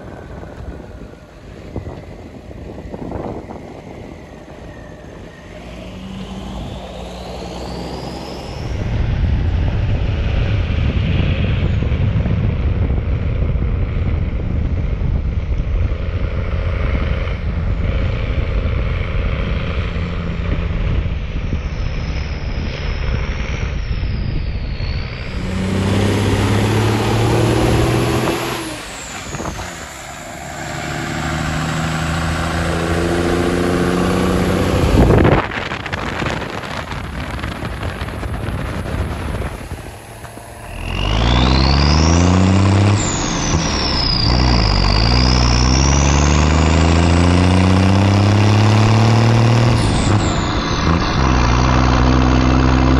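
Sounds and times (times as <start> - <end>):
truck engine running and revving: 0.0 - 52.9.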